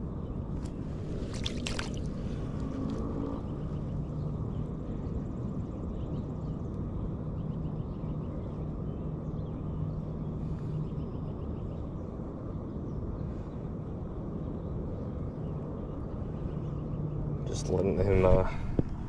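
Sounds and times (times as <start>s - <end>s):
low hum: 0.0s - 19.0s
low outdoor rumble: 0.0s - 19.0s.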